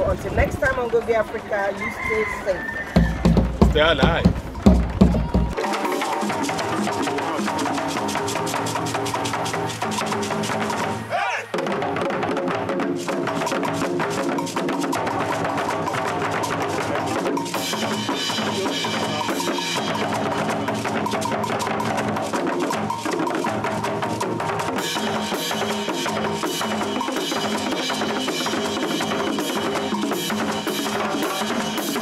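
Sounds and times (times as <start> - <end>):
drum ensemble playing: 0.0 - 32.0.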